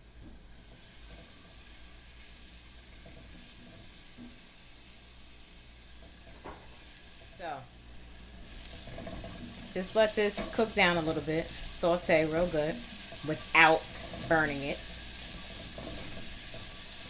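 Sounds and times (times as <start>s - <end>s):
garlic sizzling in oil: 0.0s - 17.0s.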